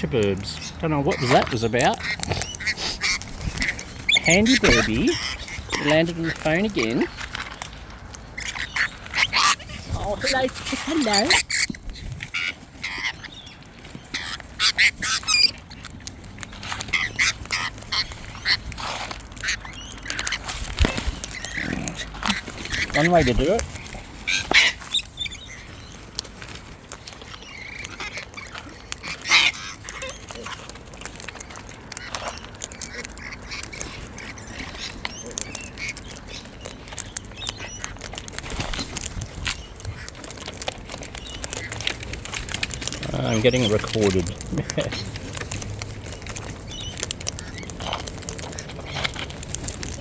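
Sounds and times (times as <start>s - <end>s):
parrots squawking: 0.0s - 26.2s, 27.0s - 50.0s.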